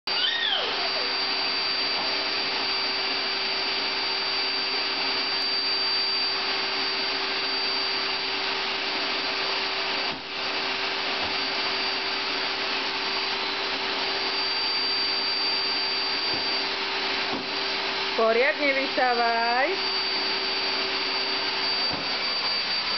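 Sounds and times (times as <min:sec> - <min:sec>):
vacuum cleaner running: 0:00.1 - 0:22.9.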